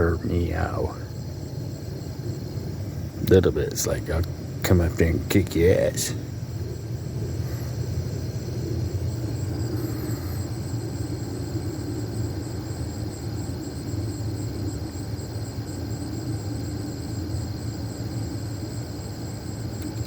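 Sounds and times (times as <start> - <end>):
night insects chirping: 0.0 - 20.0
steady low rumble: 0.0 - 20.0.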